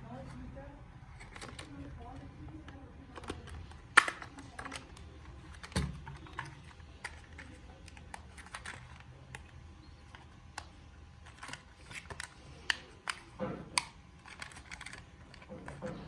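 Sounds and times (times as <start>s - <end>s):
clicks of handling plastic toy: 1.1s - 16.0s.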